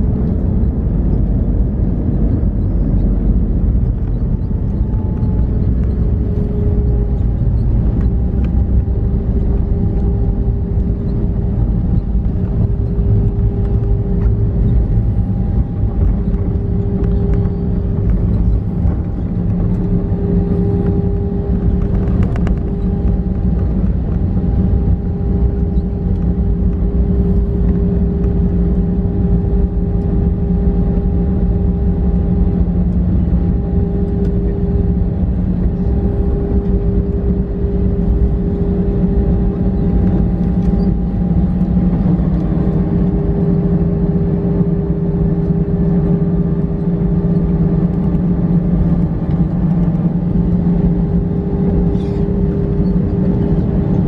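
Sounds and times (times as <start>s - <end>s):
jet engines humming: 0.0s - 54.0s
wheels rumbling on pavement: 0.0s - 54.0s.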